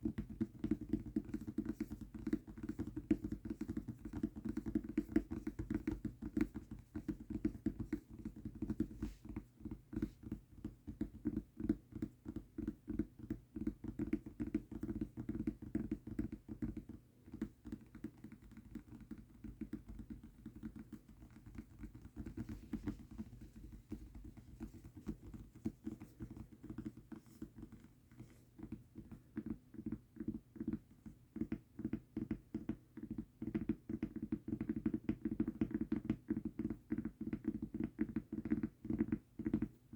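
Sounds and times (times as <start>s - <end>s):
tapping on a mousepad: 0.0s - 39.8s.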